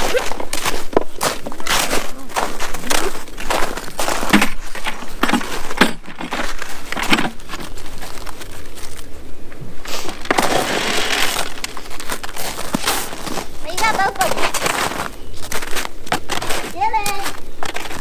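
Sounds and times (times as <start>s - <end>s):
footsteps crunching on icy snow: 0.0s - 18.0s.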